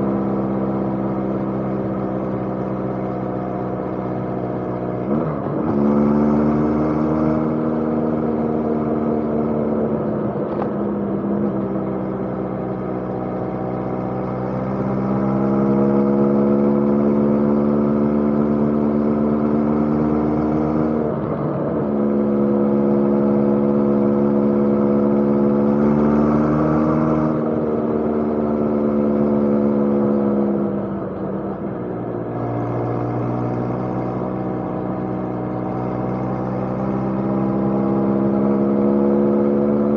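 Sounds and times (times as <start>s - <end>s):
motorcycle engine running: 7.0s - 39.9s.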